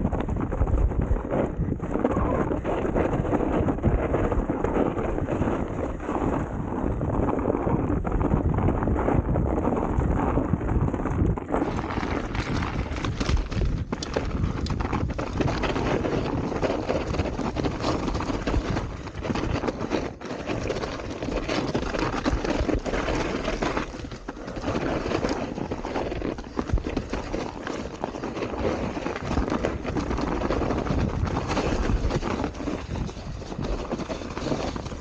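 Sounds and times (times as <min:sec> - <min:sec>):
tyre and trail rumble: 0:00.0 - 0:35.0
wind buffeting microphone: 0:00.0 - 0:35.0.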